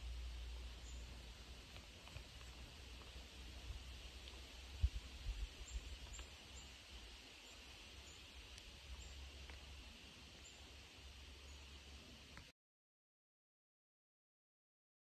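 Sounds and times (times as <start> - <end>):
steady hiss: 0.0 - 12.5.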